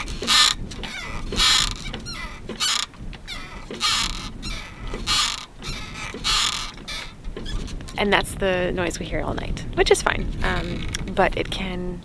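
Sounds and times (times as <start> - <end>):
boat boom creaking: 0.0 - 8.5, 10.0 - 11.5.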